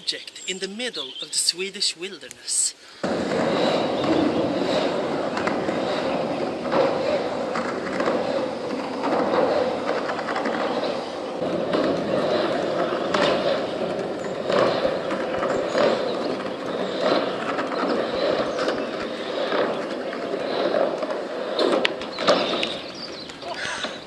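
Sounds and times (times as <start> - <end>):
skateboard wheels rolling on pavement: 0.0 - 24.0.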